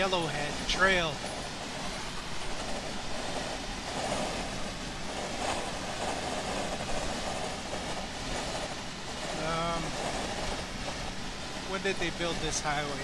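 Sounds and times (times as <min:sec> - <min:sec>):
truck engine hum: 0:00.0 - 0:13.0
wind noise: 0:00.0 - 0:13.0.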